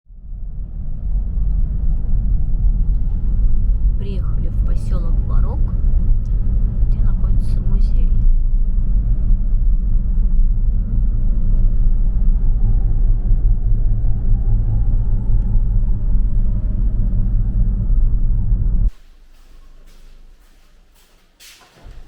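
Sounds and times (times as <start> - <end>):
car engine rumble: 0.1 - 21.0
road noise: 0.1 - 22.0.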